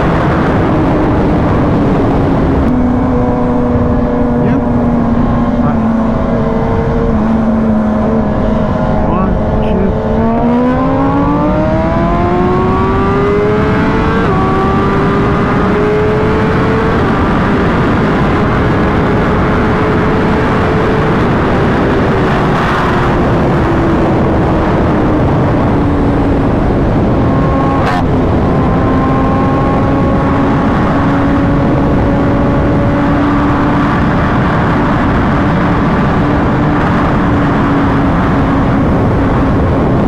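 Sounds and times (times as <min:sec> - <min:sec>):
vehicle engine revving: 0:00.0 - 0:40.0.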